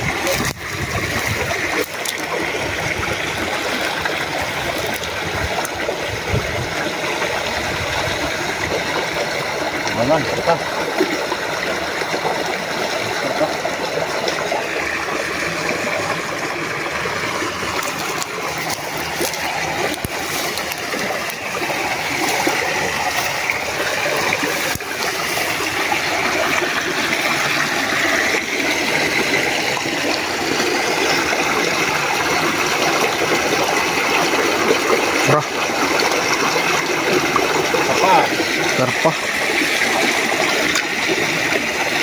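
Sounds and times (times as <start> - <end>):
water rushing over rocks: 0.0 - 42.0.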